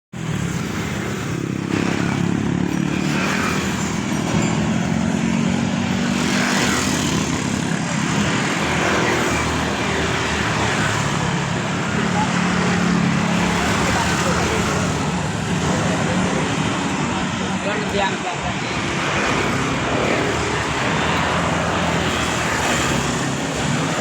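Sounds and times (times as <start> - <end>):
vehicle engines running: 0.2 - 24.0.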